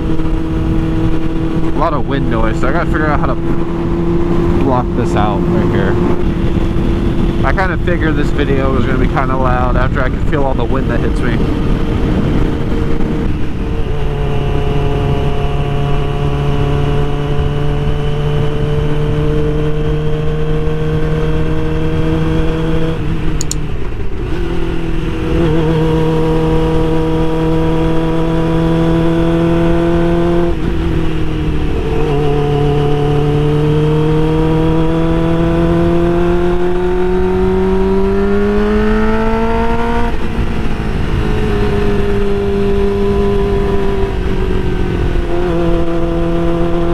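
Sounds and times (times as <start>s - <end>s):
motorcycle engine revving: 0.0s - 46.9s
wind buffeting microphone: 0.0s - 46.9s.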